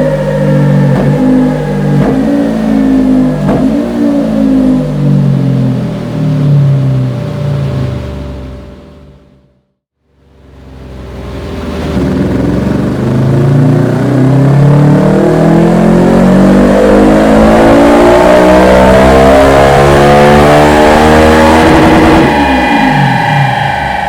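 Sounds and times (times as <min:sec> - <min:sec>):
motorcycle engine revving: 0:00.0 - 0:09.1, 0:10.4 - 0:24.0.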